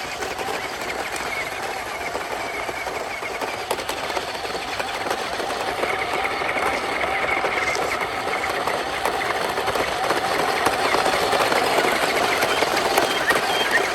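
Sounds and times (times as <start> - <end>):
fast rattle: 0.0 - 13.9
toy electric motors whirring: 0.0 - 13.9.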